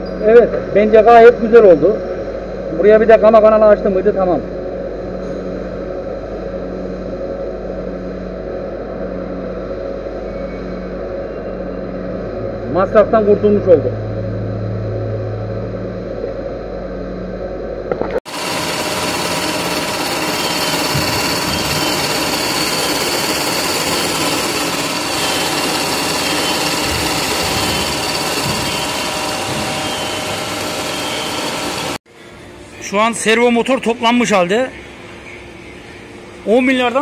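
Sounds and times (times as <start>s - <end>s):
machine running with high whine: 0.0s - 37.0s
workshop machine hum: 0.0s - 37.0s.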